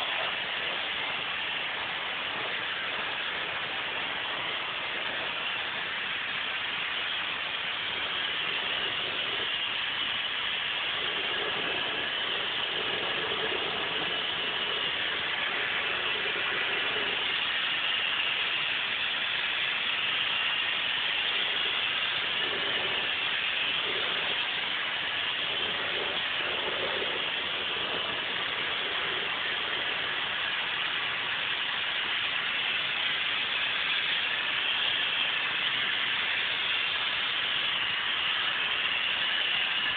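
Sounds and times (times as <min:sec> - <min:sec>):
rushing air in spray booth: 0:00.0 - 0:39.9
spray gun hissing: 0:00.0 - 0:39.9.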